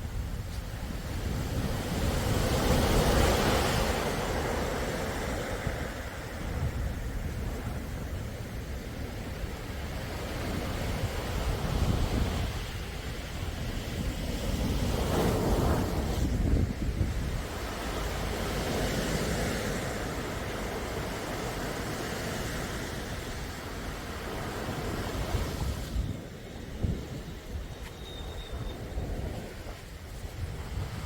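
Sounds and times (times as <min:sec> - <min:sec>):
sea waves breaking: 0:00.0 - 0:31.0.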